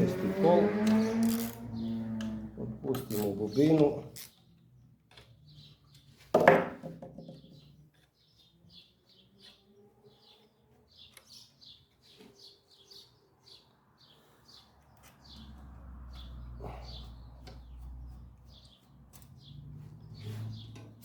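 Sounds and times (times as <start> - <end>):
small birds chirping: 0.0 - 6.3, 7.2 - 21.0.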